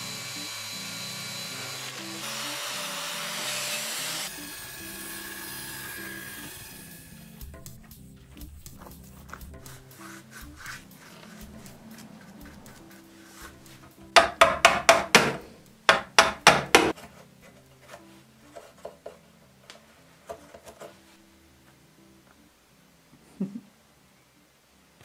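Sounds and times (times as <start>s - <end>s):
soft background music: 0.0s - 25.0s.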